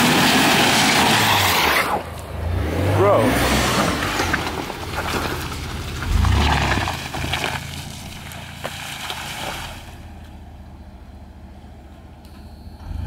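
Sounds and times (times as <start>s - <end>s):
tyres churning through mud: 0.0s - 10.8s
suv engine revving: 0.0s - 13.0s.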